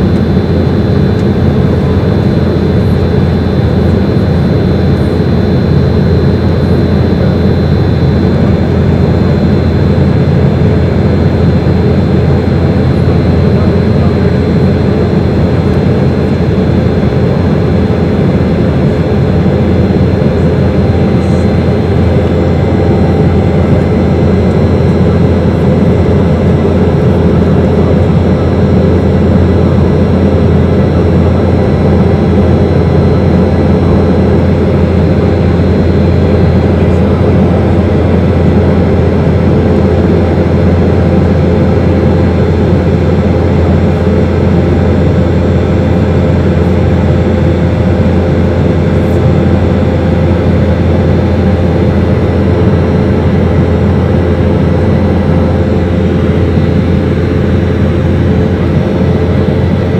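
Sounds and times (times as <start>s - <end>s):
jet engine drone: 0.0s - 59.9s
thin high whine: 0.0s - 59.9s.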